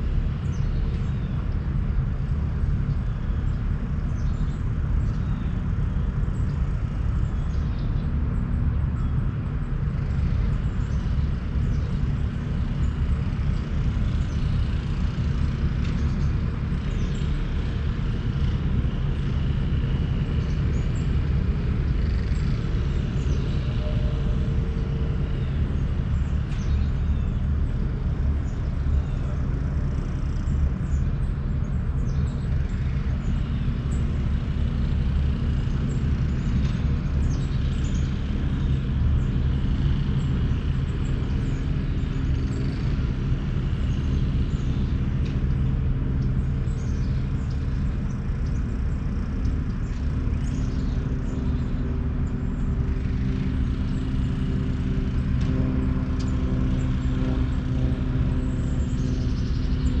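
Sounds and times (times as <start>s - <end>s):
distant motor rumble: 0.0s - 60.0s.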